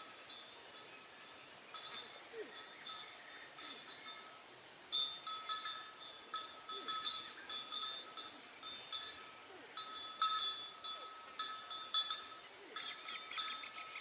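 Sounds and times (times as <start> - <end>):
animal neck bell clinking: 1.7 - 14.0.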